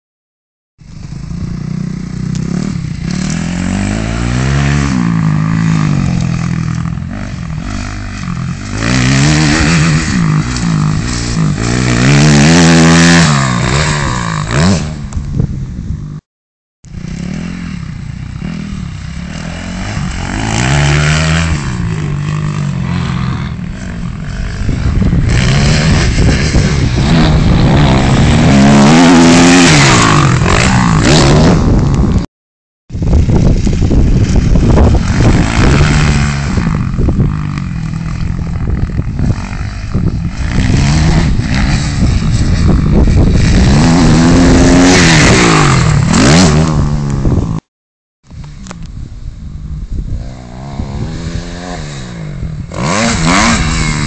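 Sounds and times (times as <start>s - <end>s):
dirt bike engine revving: 0.8s - 15.2s, 16.9s - 32.3s, 32.9s - 47.7s, 50.1s - 54.0s.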